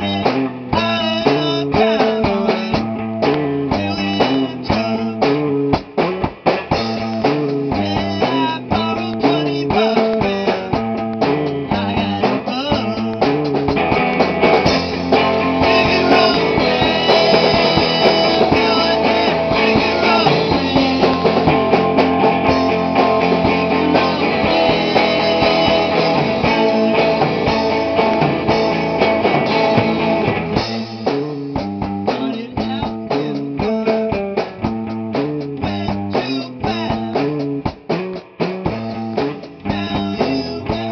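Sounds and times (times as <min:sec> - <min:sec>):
bass guitar: 0:00.0 - 0:40.9
drums: 0:00.0 - 0:40.9
electric guitar: 0:00.0 - 0:40.9.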